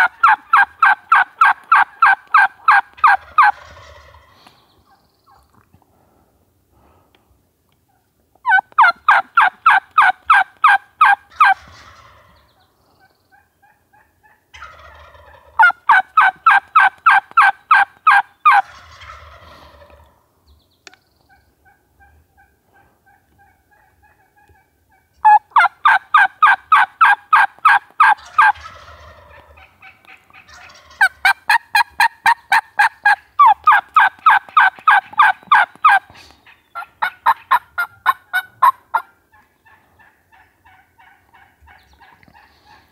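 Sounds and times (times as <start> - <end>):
turkey yelping: 0.0 - 4.3, 7.9 - 12.4, 13.4 - 20.1, 21.3 - 42.9.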